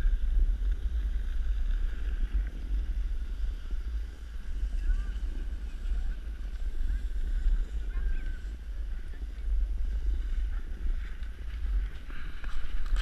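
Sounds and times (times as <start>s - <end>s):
snowboard scraping over snow: 0.0s - 13.0s
wind rumbling on microphone: 0.0s - 13.0s.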